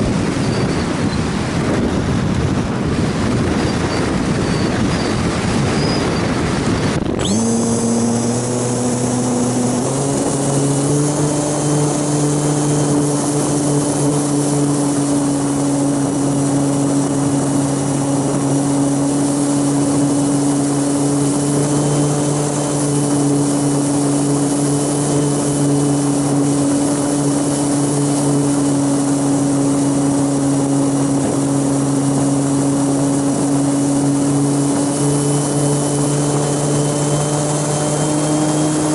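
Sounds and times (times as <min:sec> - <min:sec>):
wind rumble: 0:00.0 - 0:38.9
model aircraft motor and propellers: 0:03.4 - 0:38.9.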